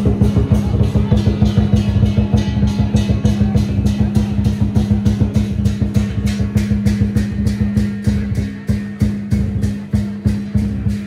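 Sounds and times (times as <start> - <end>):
cymbals clashing: 0.0 - 11.0
large drum beaten fast: 0.0 - 11.0.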